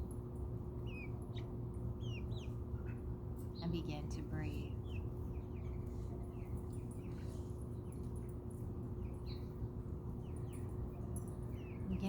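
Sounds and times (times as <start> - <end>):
steady low hum: 0.0 - 12.0
birds chirping: 0.8 - 12.0.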